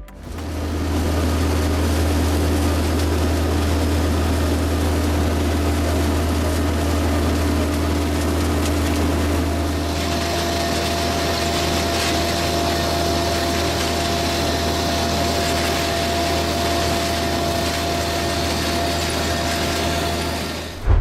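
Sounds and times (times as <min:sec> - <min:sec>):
farm machinery engine droning: 0:00.0 - 0:20.9.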